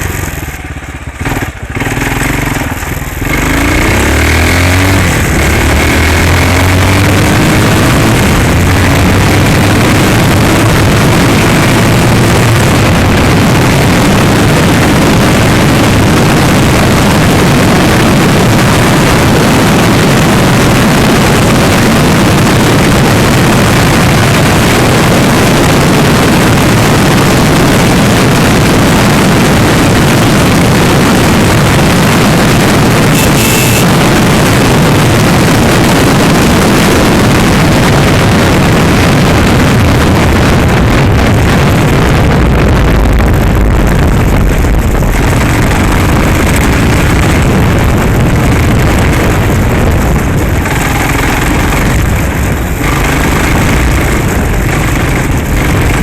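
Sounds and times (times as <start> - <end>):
dirt bike engine: 0.0 - 56.0
wind buffeting microphone: 2.4 - 56.0.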